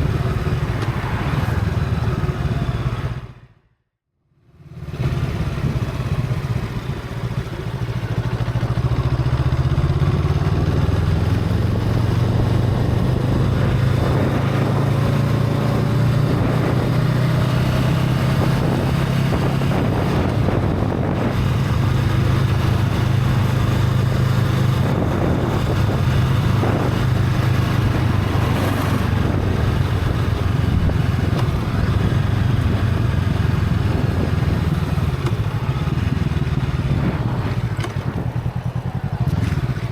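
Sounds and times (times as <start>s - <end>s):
motorcycle engine droning: 0.0s - 3.6s, 4.6s - 39.9s.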